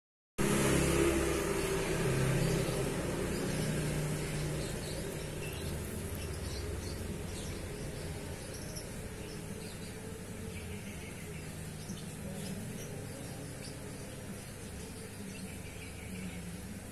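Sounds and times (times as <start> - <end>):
vehicle engine humming: 0.4 - 16.9.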